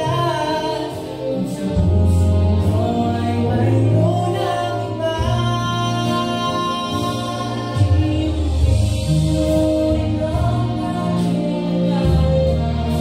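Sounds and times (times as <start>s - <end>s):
male vocal group singing: 0.0s - 13.0s.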